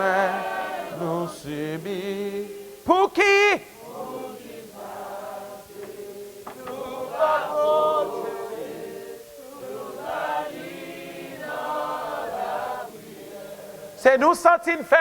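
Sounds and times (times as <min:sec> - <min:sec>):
congregation praying aloud: 0:00.0 - 0:15.0.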